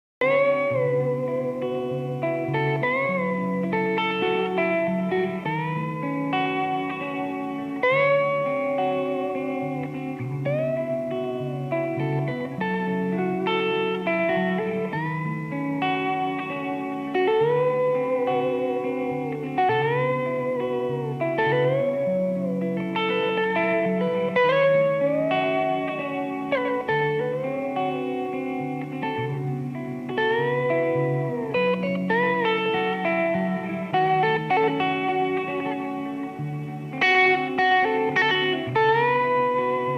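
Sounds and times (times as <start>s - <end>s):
slow lead guitar melody: 0.2s - 39.9s.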